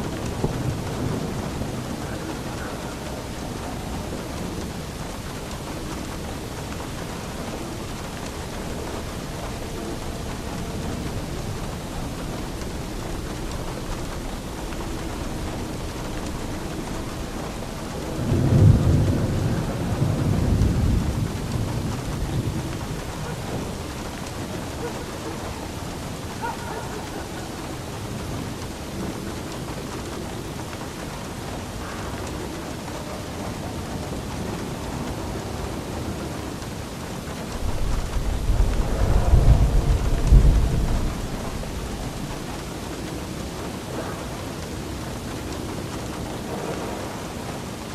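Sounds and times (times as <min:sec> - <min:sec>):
steady rain falling: 0:00.0 - 0:47.9
thunder rumbling: 0:00.0 - 0:47.9.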